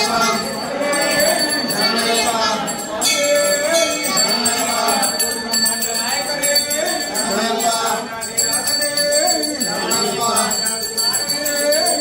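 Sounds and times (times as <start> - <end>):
bell ringing on high note: 0.0 - 12.0
voices singing: 0.0 - 12.0.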